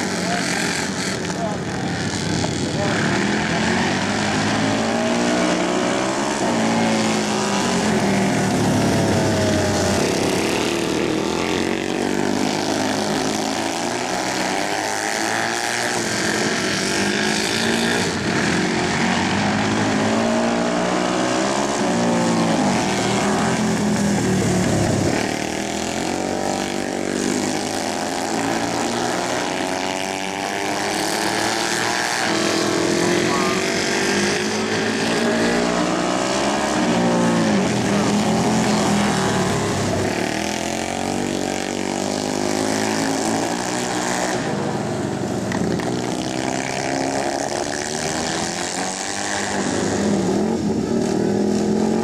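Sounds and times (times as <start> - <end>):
motorcycle engines racing: 0.0 - 52.0.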